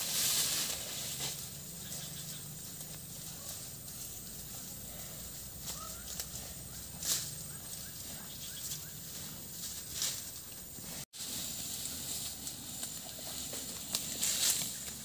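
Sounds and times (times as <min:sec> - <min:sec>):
cattle rustling and tearing plants: 0:00.0 - 0:10.4, 0:11.2 - 0:15.0.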